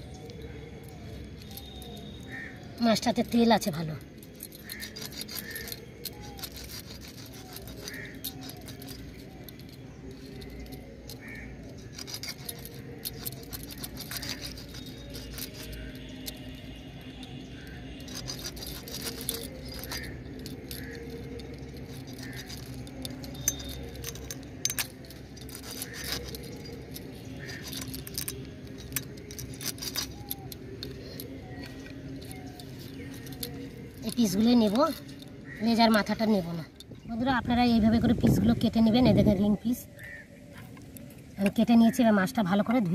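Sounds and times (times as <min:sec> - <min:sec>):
bangles jangling: 0:00.0 - 0:42.9.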